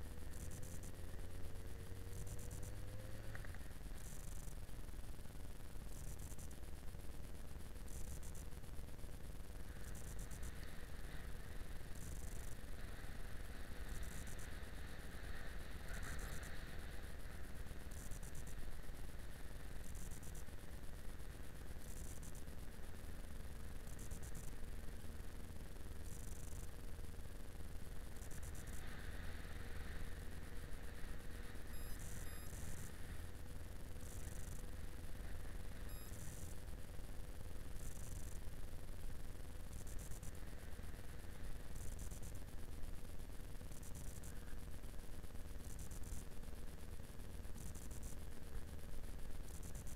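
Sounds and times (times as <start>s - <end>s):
wind: 0.0s - 49.9s.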